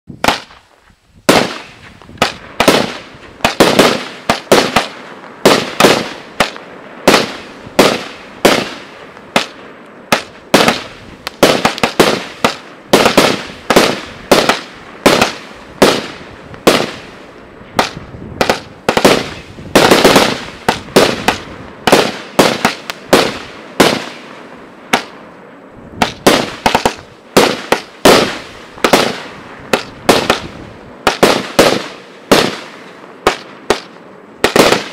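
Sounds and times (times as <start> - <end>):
firework bangs: 0.1 - 25.3, 25.9 - 34.9.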